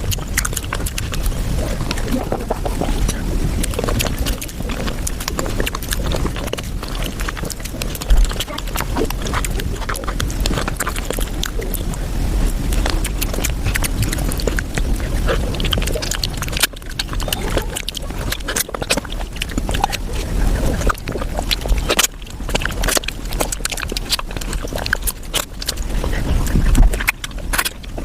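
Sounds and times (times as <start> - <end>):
rapid chewing and slurping: 0.0 - 28.0.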